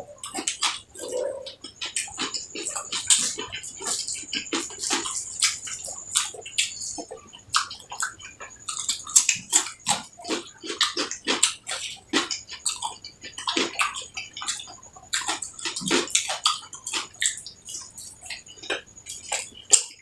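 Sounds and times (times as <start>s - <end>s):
wet chewing and lip-smacking: 0.2s - 20.0s.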